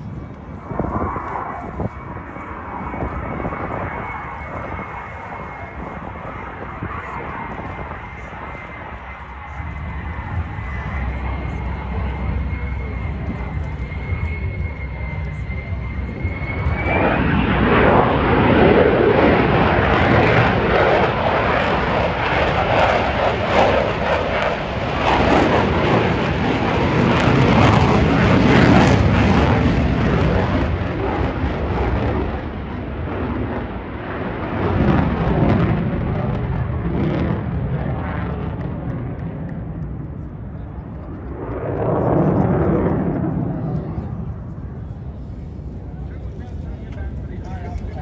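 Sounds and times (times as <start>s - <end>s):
jet fighter passing: 0.0s - 48.0s.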